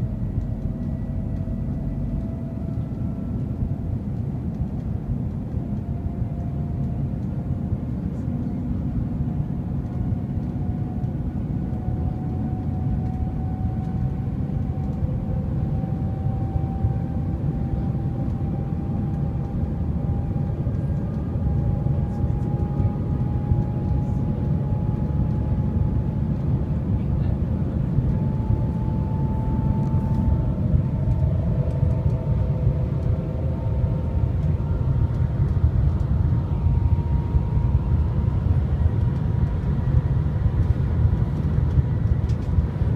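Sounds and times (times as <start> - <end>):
train low rumble: 0.0 - 42.9.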